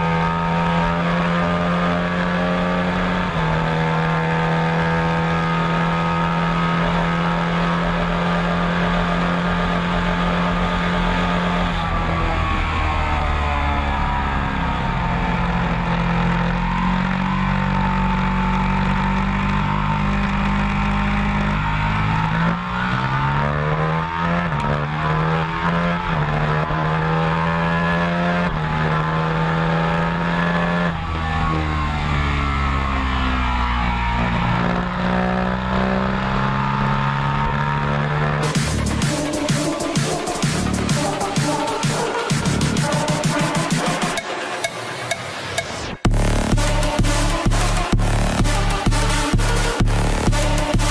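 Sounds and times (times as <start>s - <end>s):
motorcycle engine running: 0.0s - 27.8s, 34.7s - 50.9s.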